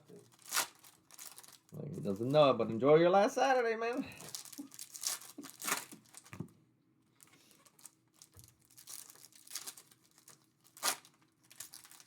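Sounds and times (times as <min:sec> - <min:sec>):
foil wrappers crinkling and tearing: 0:00.0 - 0:02.6, 0:03.9 - 0:06.4, 0:07.2 - 0:12.0.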